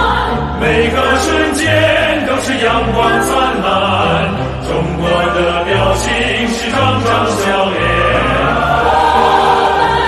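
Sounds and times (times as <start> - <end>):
choir singing with orchestra: 0.0 - 10.0.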